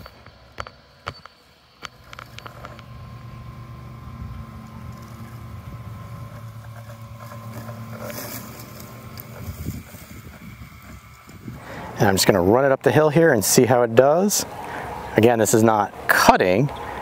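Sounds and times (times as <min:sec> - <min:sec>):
faint motor whine: 0:00.0 - 0:17.0
robotic lawn mower motors humming: 0:00.0 - 0:17.0.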